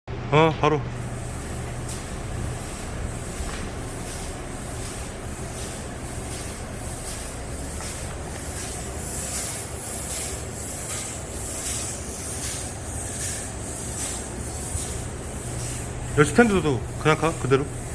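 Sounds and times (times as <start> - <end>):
low motor hum: 0.1 - 17.9
spray hissing in pulses: 1.0 - 17.9.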